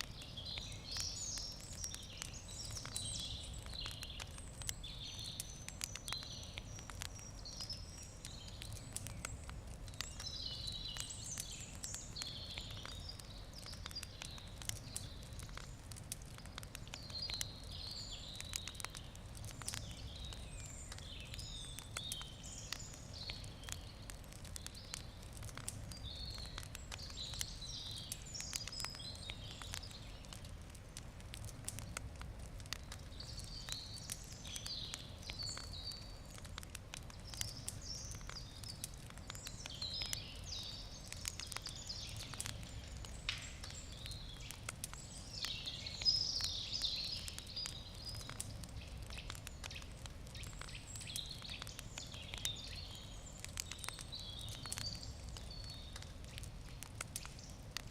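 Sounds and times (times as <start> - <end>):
birds singing: 0.0 - 30.5, 32.7 - 57.6
wood fire crackling: 0.0 - 57.9.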